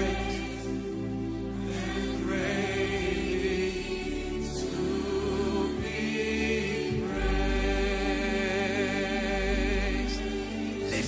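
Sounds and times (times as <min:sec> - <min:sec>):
sustained low chords: 0:00.0 - 0:11.0
voices singing held notes: 0:00.0 - 0:11.0.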